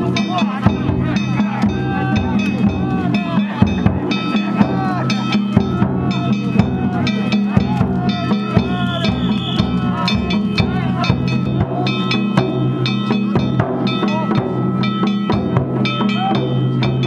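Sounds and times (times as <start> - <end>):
drums: 0.0 - 17.0
ringing metal gongs: 0.0 - 17.0.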